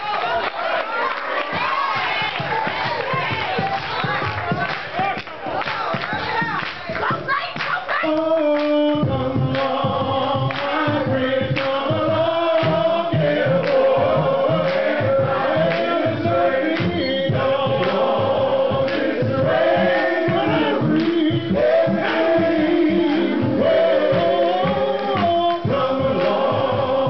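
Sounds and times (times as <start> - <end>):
gospel choir singing: 0.0 - 6.6, 7.9 - 27.0
steady beat: 1.4 - 27.0.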